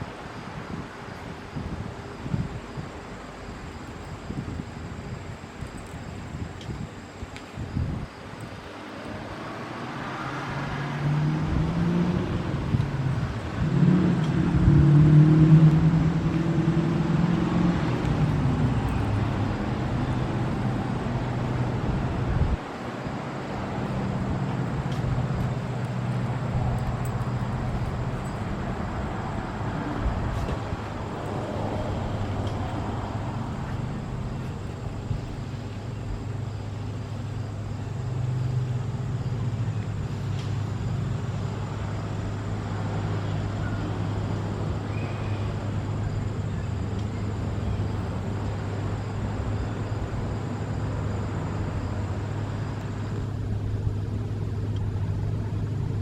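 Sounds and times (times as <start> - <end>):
outdoor background noise: 0.0 - 56.0
engine humming: 8.7 - 56.0.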